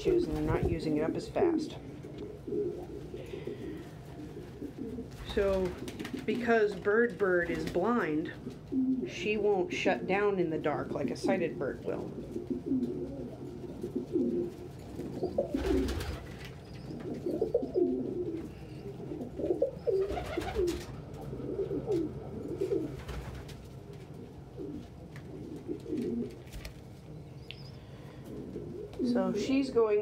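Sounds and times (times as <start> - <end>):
pigeons cooing: 0.0 - 6.7, 7.6 - 9.4, 11.0 - 30.0.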